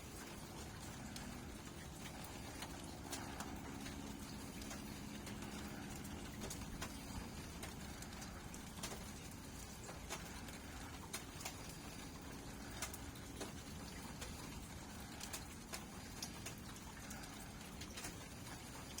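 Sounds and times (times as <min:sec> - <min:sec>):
raindrops tapping: 0:00.0 - 0:19.0
steady rainfall: 0:00.0 - 0:19.0.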